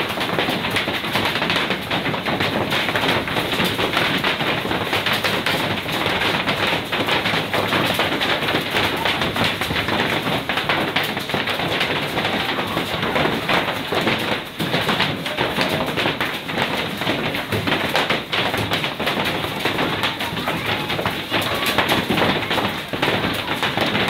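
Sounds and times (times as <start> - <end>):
hailstones pelting down: 0.0 - 24.0.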